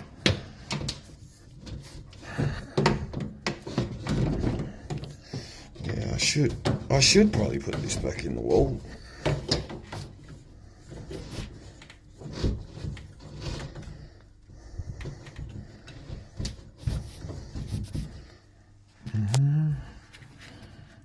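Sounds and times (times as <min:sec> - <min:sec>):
plastic parts knocking and scraping: 0:00.0 - 0:18.3.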